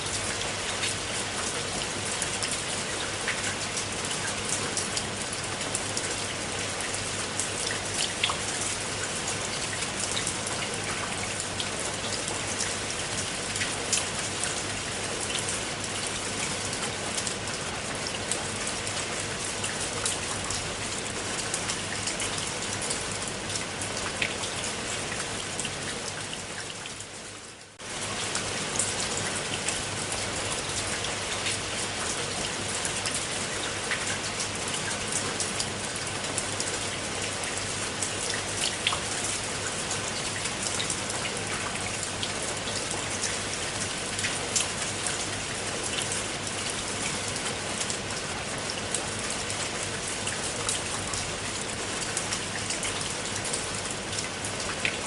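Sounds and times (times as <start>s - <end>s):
rain falling on water: 0.0s - 55.0s.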